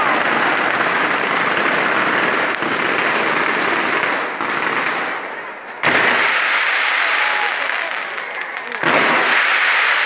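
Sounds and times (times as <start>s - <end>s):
firework crack: 0.0s - 10.0s
fireworks crackling hiss: 0.0s - 10.0s.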